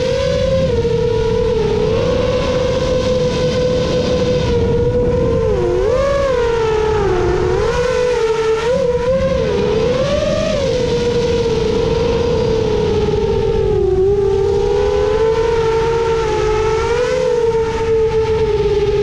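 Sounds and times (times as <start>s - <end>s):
drone motors whining: 0.0s - 19.0s
wind noise rushing: 0.0s - 19.0s.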